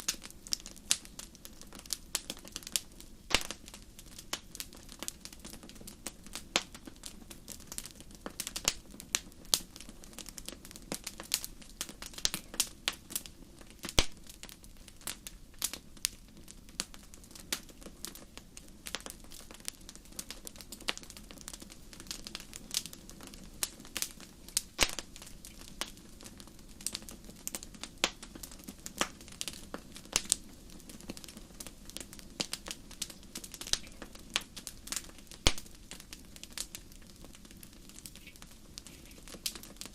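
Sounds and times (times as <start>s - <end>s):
crackles and pops of burning logs: 0.0s - 39.9s
low hiss of flames: 0.0s - 39.9s.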